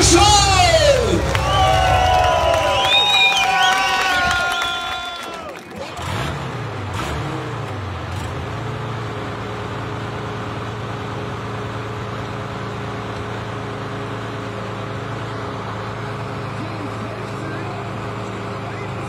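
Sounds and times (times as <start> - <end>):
deep diesel engine revving and idling: 0.0 - 19.0.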